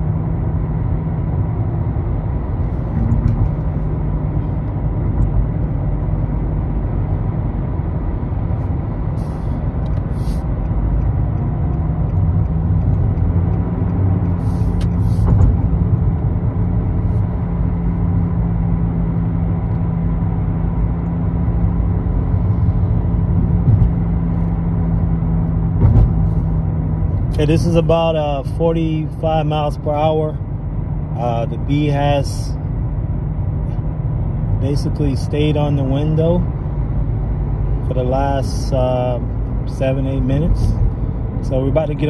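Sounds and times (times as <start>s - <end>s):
car engine hum: 0.0s - 42.0s.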